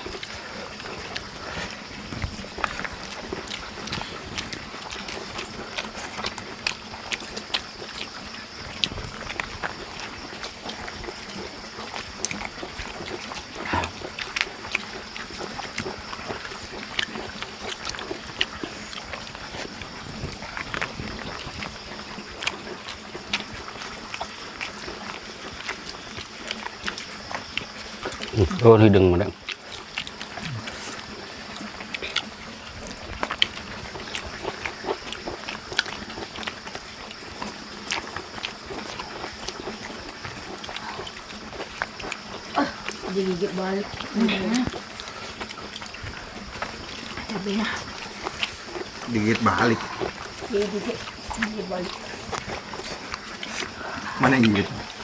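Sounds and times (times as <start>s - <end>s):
people eating: 0.0s - 55.0s
wet chewing and lip-smacking: 0.0s - 55.0s.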